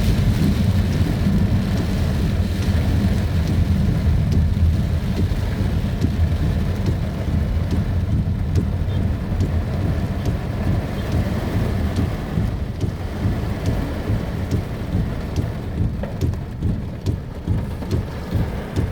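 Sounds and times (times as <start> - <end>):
heavy rain in strong wind: 0.0 - 18.9
raindrops ticking nearby: 0.0 - 18.9.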